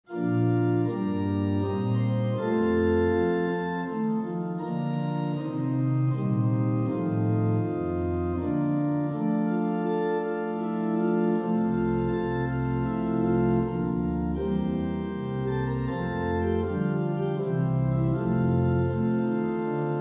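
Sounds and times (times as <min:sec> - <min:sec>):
organ playing sustained chords: 0:00.1 - 0:20.0.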